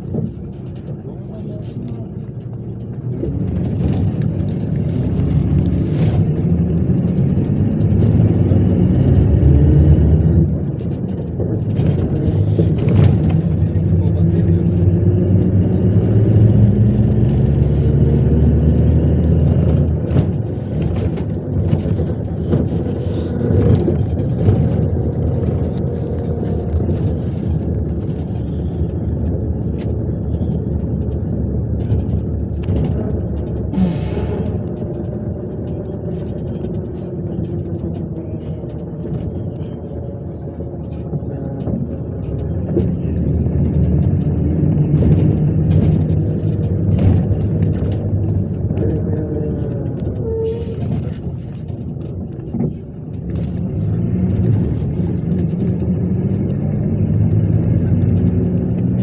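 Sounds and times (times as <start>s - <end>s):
bus diesel engine: 0.0s - 59.0s
road and tyre noise: 0.0s - 59.0s.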